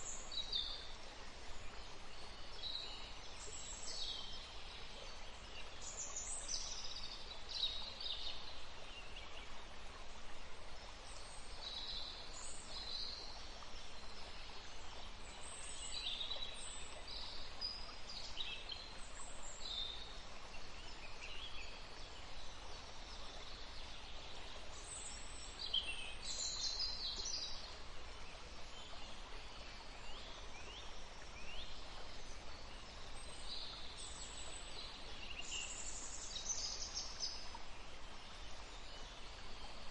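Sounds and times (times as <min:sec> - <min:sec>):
forest ambience hiss: 0:00.0 - 0:39.9
songbirds chirping: 0:00.0 - 0:39.9.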